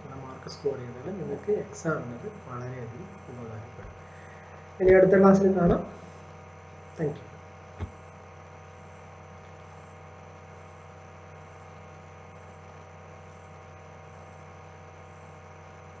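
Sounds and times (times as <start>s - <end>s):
electrical hum and buzz: 0.0s - 16.0s.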